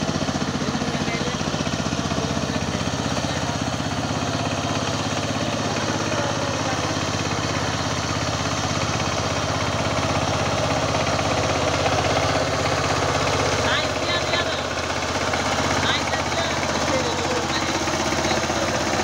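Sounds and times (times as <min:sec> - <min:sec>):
power tiller engine running: 0:00.0 - 0:19.0.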